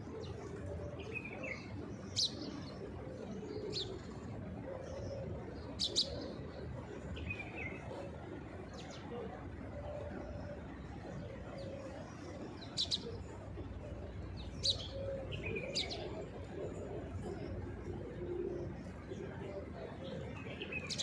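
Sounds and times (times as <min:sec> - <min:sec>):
low background noise: 0:00.0 - 0:21.0
pigeons cooing: 0:00.0 - 0:21.0.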